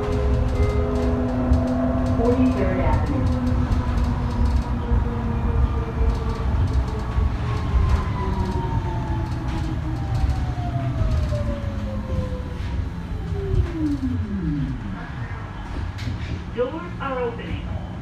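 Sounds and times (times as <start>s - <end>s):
electric traction motor whine: 0.0s - 16.7s
low rumble of bus ride: 0.0s - 18.0s.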